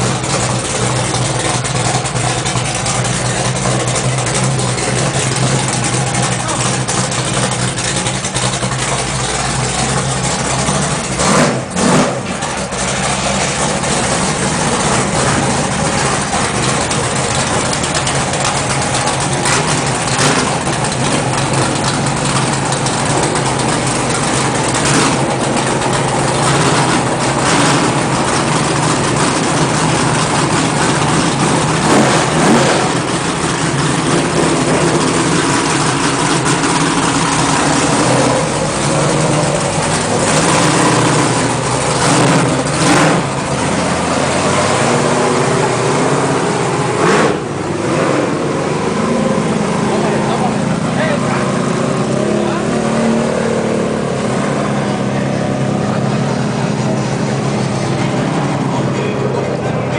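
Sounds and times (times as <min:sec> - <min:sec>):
racing vehicle engines revving: 0:00.0 - 0:59.9.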